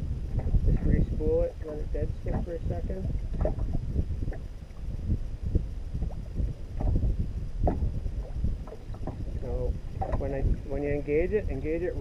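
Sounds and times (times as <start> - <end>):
low rumble: 0.0 - 12.0
water splashing against boat: 0.0 - 12.0
wind buffeting microphone: 0.0 - 12.0.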